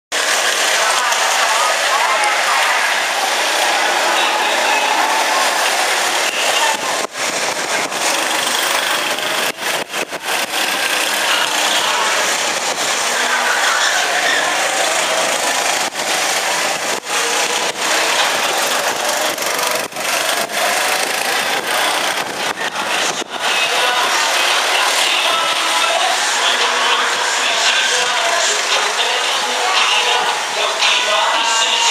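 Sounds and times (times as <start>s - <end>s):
go-kart engines revving: 0.1s - 31.9s.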